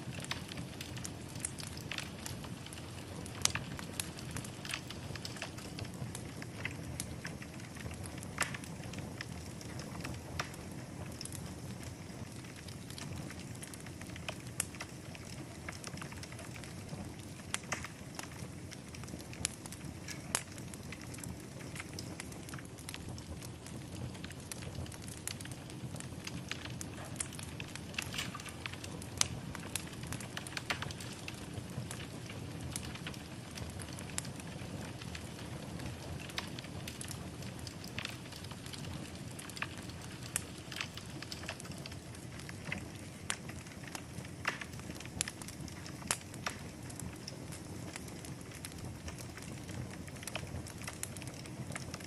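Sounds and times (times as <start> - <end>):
fire crackles and pops: 0.0 - 52.0
fire flames rushing: 0.1 - 52.0.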